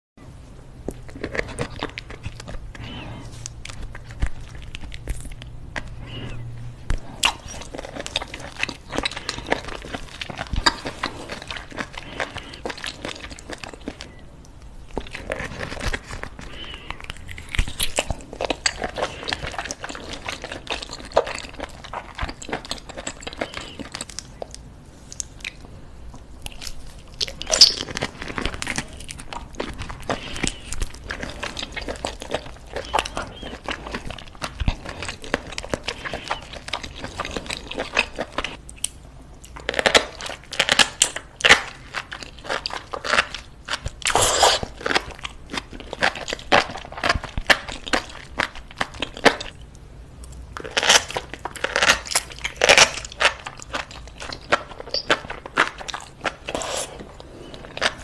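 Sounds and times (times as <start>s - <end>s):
chewing and crunching: 0.7s - 58.0s.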